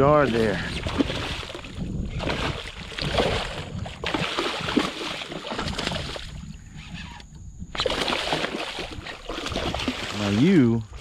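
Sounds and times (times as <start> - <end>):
fish splashing at water surface: 0.3 - 6.4, 7.7 - 10.6.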